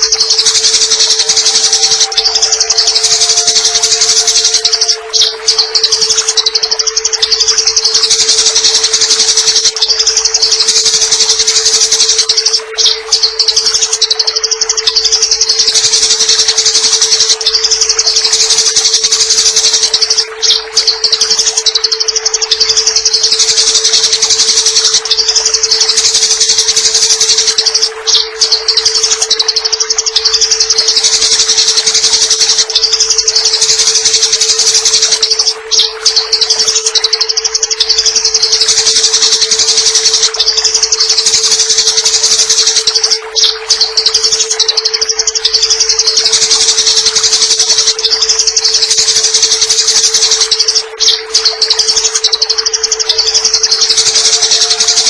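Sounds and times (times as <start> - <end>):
constant low tone: 0.0 - 55.0
sparrows chattering: 0.0 - 55.0
water trickling hiss: 0.0 - 55.0.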